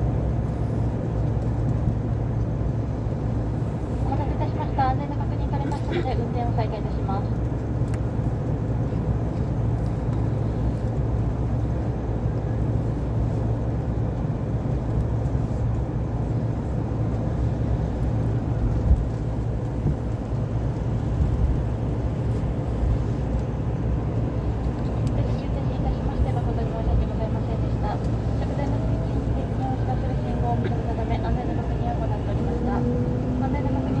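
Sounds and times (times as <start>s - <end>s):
train car rumble and hum: 0.0s - 34.0s.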